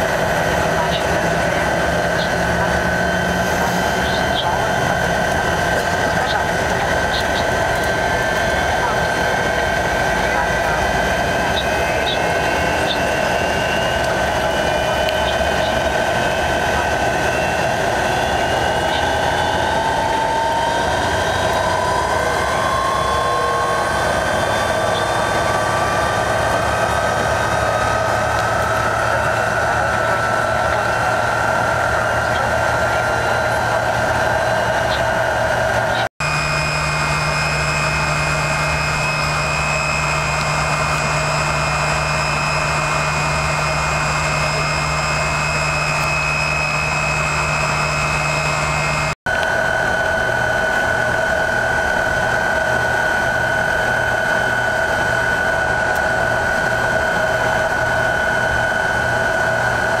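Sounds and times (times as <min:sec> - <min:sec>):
jet engine whine: 0:00.0 - 1:00.0
low engine hum: 0:00.0 - 1:00.0.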